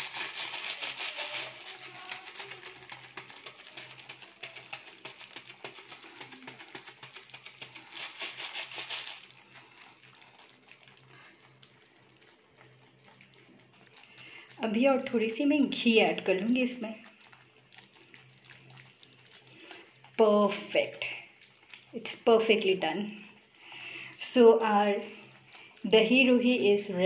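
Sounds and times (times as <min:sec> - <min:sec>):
thick curry bubbling in a pan: 0:00.0 - 0:27.0.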